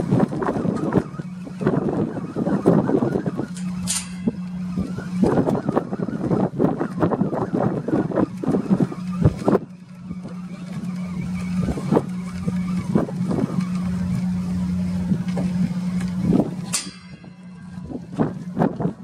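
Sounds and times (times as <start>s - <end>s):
engine running steadily: 0.0s - 19.0s
wind buffeting microphone: 0.0s - 19.0s.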